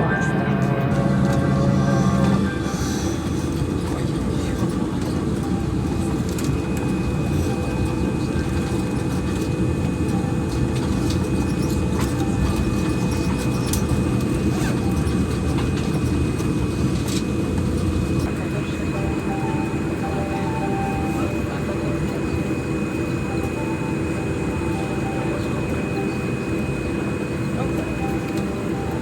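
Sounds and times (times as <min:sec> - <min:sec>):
airliner cabin low rumble: 0:00.0 - 0:29.0.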